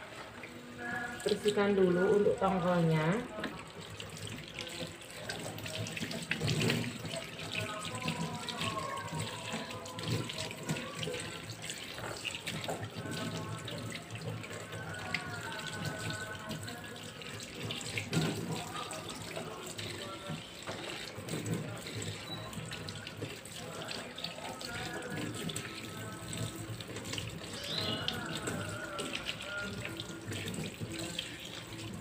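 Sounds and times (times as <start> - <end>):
tap water running into sink: 0.2 - 32.0.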